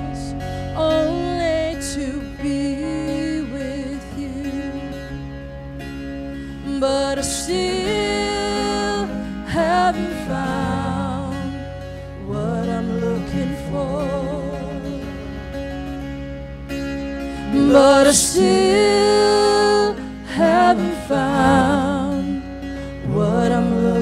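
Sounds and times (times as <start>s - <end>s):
woman singing a slow song: 0.0s - 5.1s, 6.5s - 15.4s, 17.4s - 24.0s
instrumental accompaniment: 0.0s - 24.0s.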